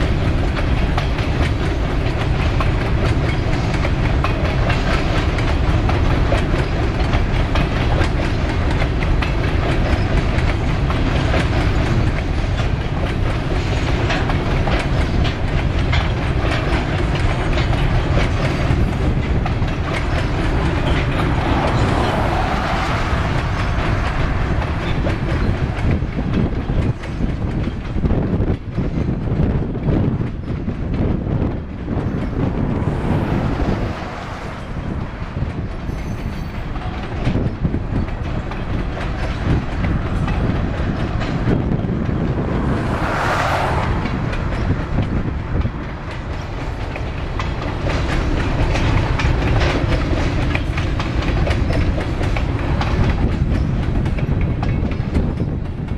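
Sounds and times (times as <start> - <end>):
clickety-clack over rail joints: 0.0 - 55.9
train wheels rumbling on rail: 0.0 - 55.9.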